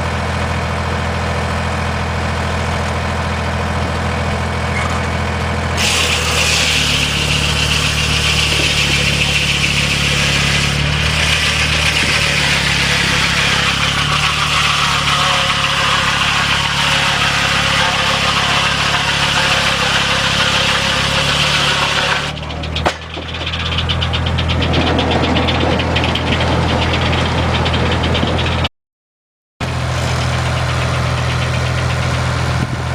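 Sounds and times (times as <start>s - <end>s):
engine idling: 0.0s - 28.7s, 29.6s - 32.9s.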